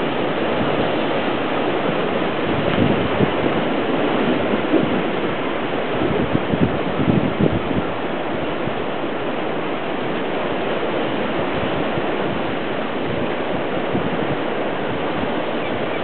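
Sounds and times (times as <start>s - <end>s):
surf washing over rocks: 0.0s - 16.0s.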